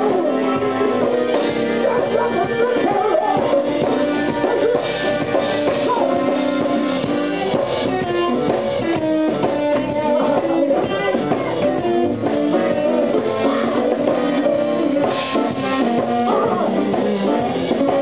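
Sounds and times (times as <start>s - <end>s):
drum kit: 0.0s - 18.0s
electric bass: 0.0s - 18.0s
electric guitar: 0.0s - 18.0s.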